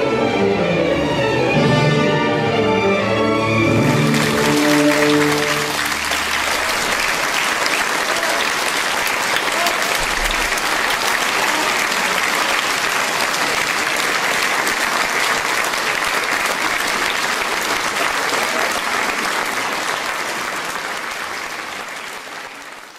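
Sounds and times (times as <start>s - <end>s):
audience applauding: 3.6s - 22.9s.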